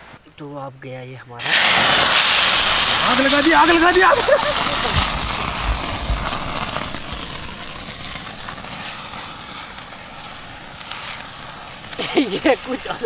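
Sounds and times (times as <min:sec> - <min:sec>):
fire crackling: 0:01.4 - 0:13.0
flames rushing from burning oil: 0:01.4 - 0:13.0.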